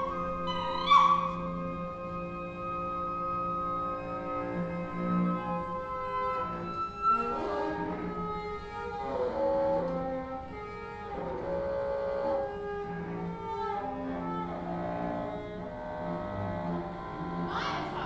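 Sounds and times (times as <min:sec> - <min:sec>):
bowed cello: 0:00.0 - 0:18.0.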